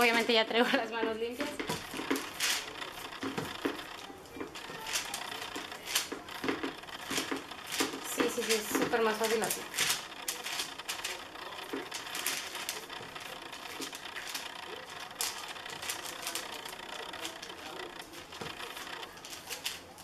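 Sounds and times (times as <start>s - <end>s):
hands patting dough: 0.0s - 19.8s
crackling rustle: 0.0s - 20.0s
small clicks: 1.4s - 20.0s.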